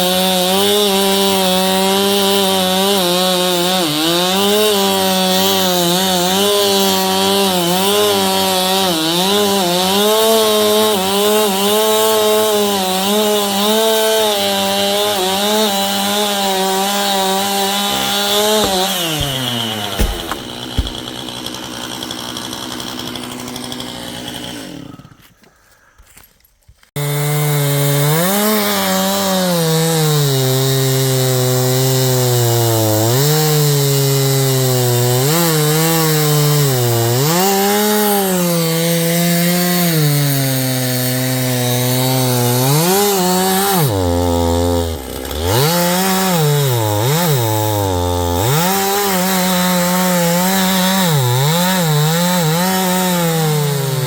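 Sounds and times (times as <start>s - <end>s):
chainsaw cutting wood: 0.0s - 25.5s, 26.9s - 54.0s.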